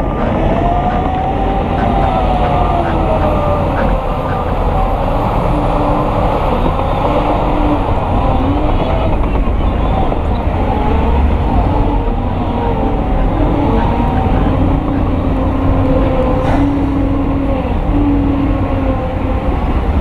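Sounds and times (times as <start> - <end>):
heavy diesel machinery rumbling: 0.0 - 20.0.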